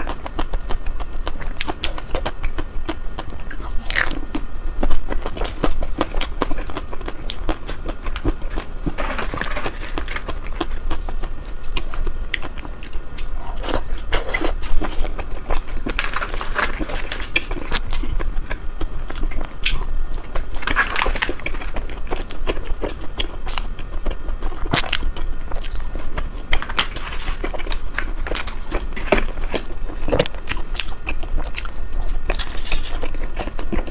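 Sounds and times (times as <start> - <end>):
chewing ice cream: 0.0 - 33.9.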